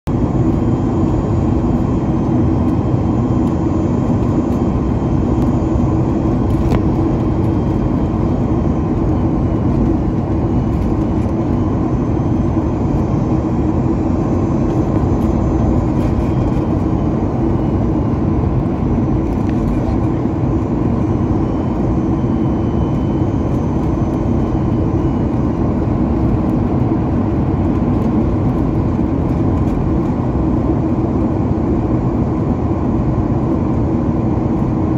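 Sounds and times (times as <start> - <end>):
airplane cabin engine noise: 0.0 - 34.9.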